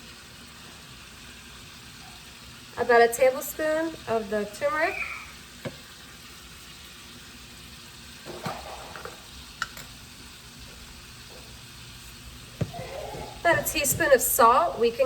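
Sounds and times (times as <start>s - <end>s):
sauce sizzling in a pot: 0.0s - 15.0s.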